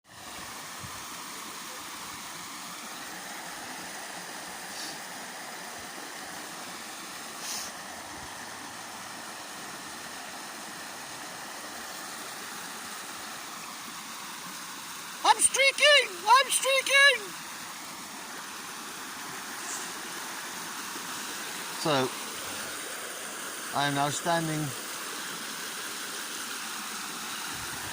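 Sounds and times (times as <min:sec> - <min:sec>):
river water rushing: 0:00.1 - 0:27.9.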